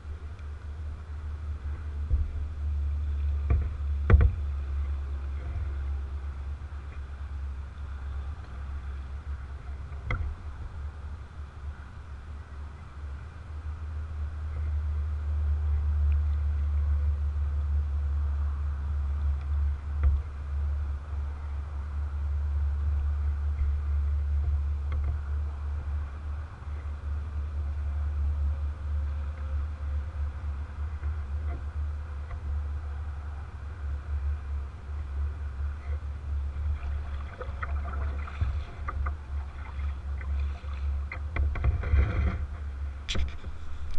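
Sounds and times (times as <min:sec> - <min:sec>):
water and wind rumble: 0:00.0 - 0:43.9.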